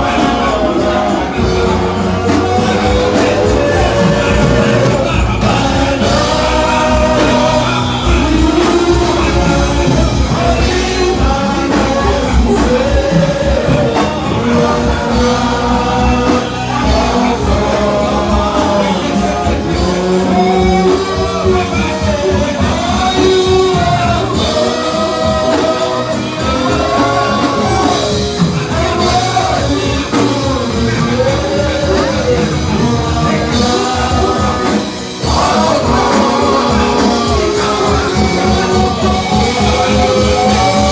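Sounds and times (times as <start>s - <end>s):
band playing with steady beat: 0.0s - 40.9s
person singing: 0.0s - 40.9s.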